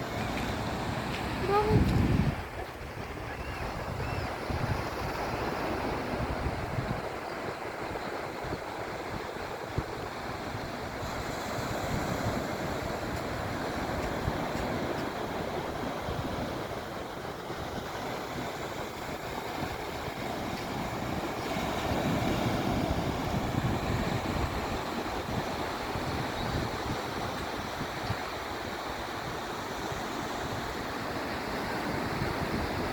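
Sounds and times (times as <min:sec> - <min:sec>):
wind buffeting microphone: 0:00.0 - 0:29.2
sea surf washing onto shore: 0:00.0 - 0:32.9.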